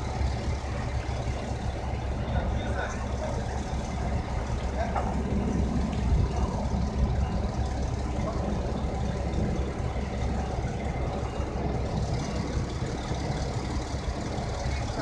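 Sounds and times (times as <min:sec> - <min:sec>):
crane diesel engines running: 0:00.0 - 0:15.0.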